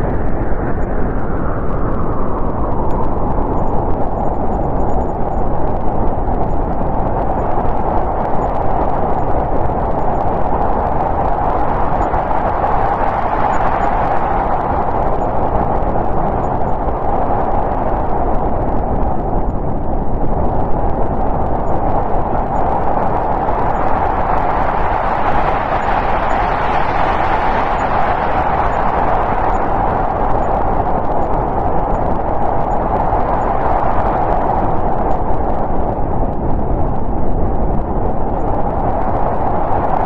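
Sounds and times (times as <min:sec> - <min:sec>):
snowstorm wind blowing: 0:00.0 - 0:40.0.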